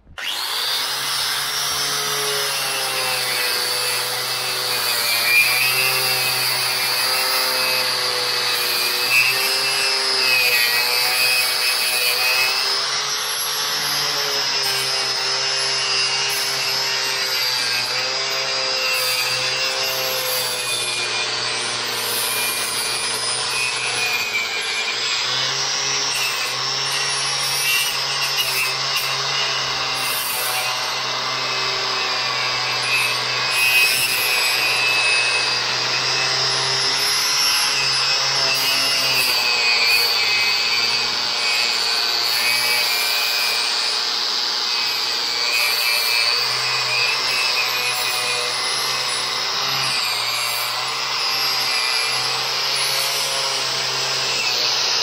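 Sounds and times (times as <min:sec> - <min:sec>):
angle grinder grinding metal: 0:00.0 - 0:55.0.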